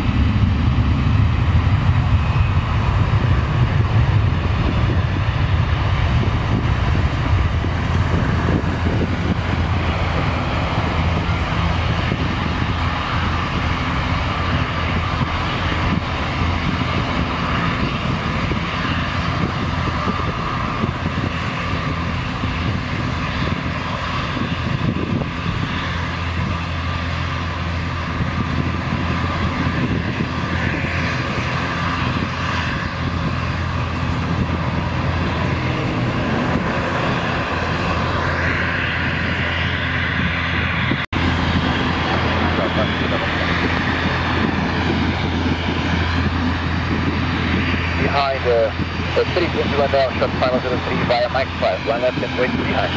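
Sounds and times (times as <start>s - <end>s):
jet engines at takeoff power: 0.0s - 52.9s.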